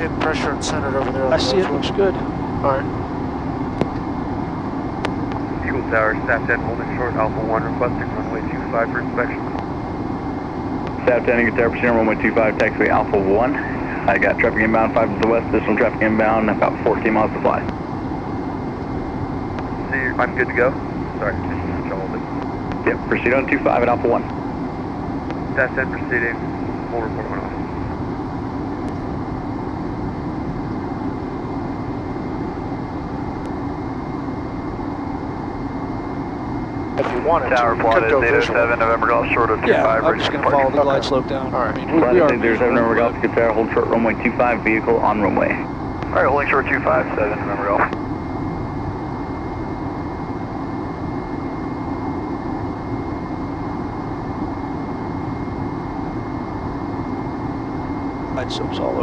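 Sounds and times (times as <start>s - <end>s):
faint high steady tone: 0.0s - 3.6s, 5.1s - 24.8s, 25.4s - 59.0s
faint high whine: 0.0s - 59.0s
jet engine and airflow roar: 0.0s - 59.0s.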